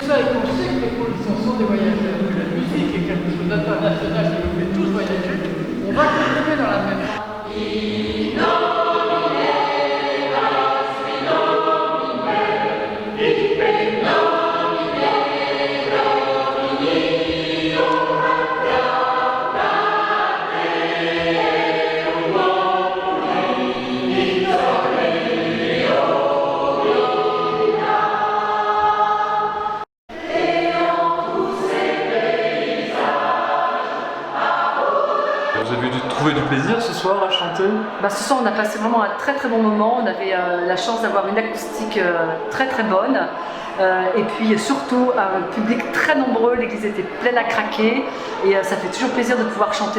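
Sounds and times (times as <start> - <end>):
choir singing: 0.0 - 49.9.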